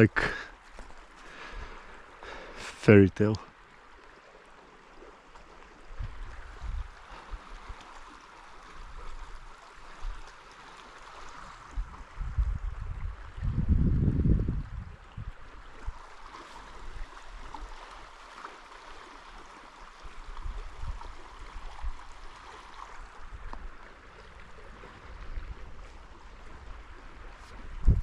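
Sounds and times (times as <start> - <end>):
stream trickling: 0.0 - 28.0.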